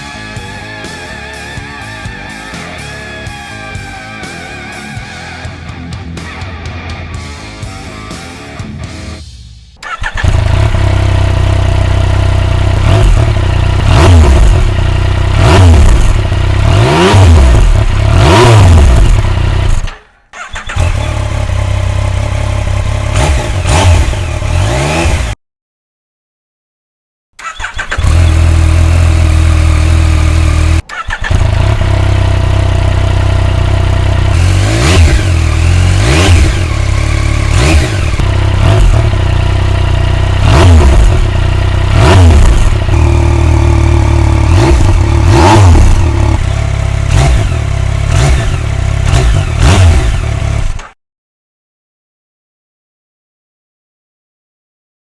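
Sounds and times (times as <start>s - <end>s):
motorcycle engine idling and revving: 0.0s - 6.2s, 7.1s - 25.4s, 27.4s - 51.0s.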